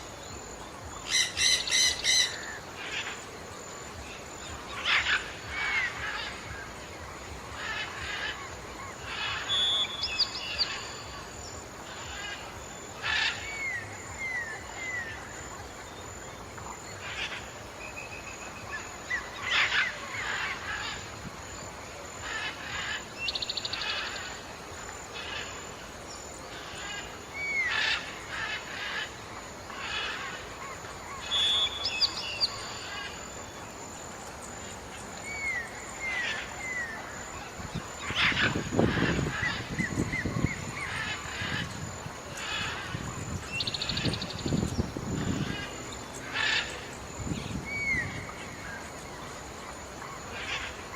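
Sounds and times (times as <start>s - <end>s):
birds chirping and trilling: 0.0s - 50.9s
steady background hiss: 0.0s - 50.9s.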